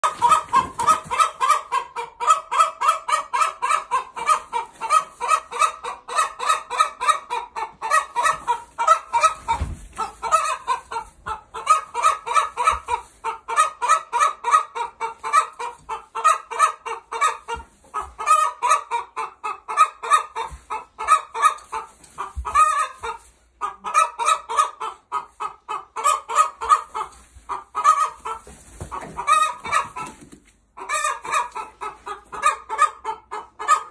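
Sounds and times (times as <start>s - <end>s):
chickens clucking rapidly: 0.0s - 33.9s.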